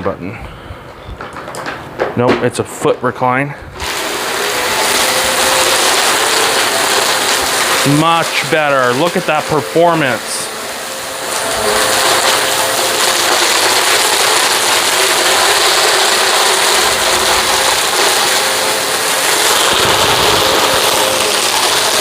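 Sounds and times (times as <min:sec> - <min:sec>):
upright vacuum running: 0:03.7 - 0:22.0.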